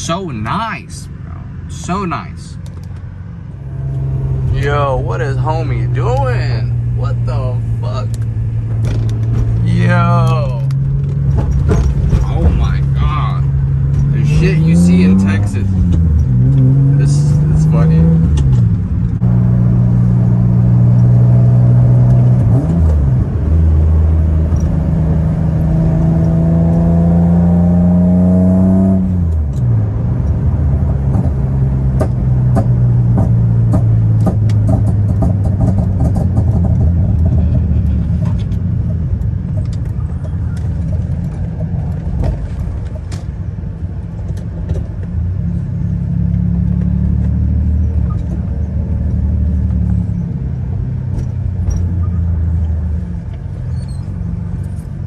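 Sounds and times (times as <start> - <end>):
car engine accelerating: 1.2 - 55.0.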